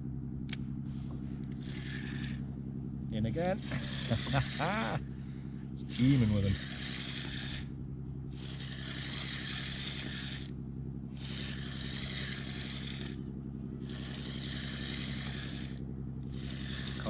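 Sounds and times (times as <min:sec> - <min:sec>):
steady low hum: 0:00.0 - 0:17.0
fishing reel whirring: 0:00.9 - 0:02.6, 0:03.2 - 0:17.0.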